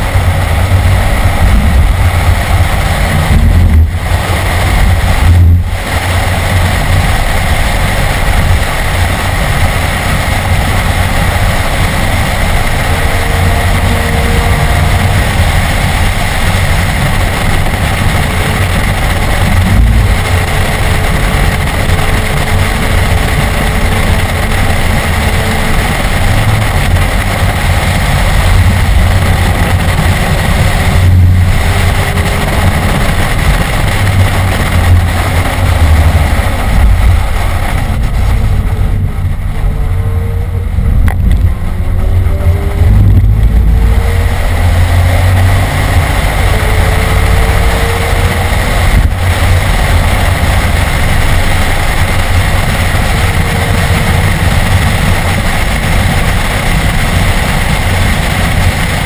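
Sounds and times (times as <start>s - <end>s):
car engine under load: 0.0s - 59.0s
road and wind noise: 0.0s - 59.0s.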